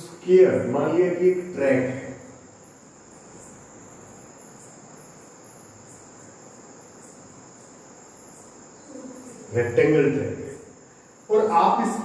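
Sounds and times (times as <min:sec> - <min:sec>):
crickets chirping: 0:00.0 - 0:12.0
room hiss: 0:00.0 - 0:12.0.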